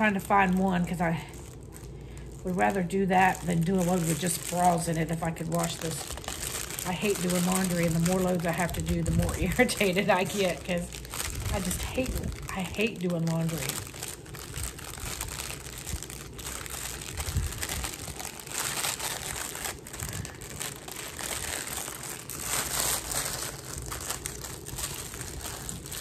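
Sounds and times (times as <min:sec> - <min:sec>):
packaging crinkling: 0:00.0 - 0:26.0.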